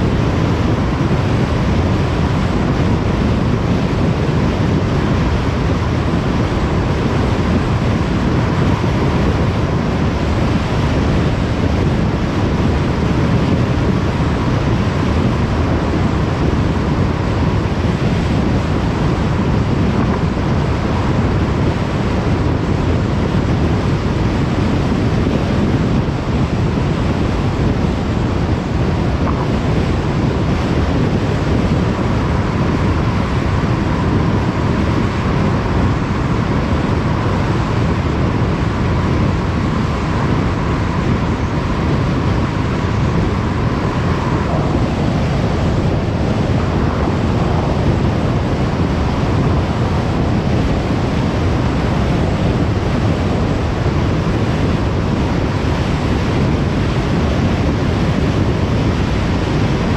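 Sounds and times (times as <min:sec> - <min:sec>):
faint steady whine: 0:00.0 - 0:59.9
wind rush: 0:00.0 - 0:59.9.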